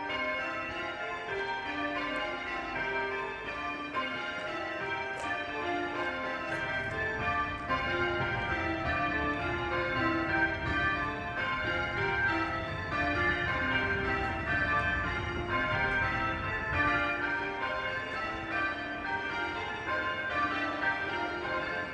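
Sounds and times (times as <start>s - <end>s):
church bells change ringing: 0.0s - 21.9s.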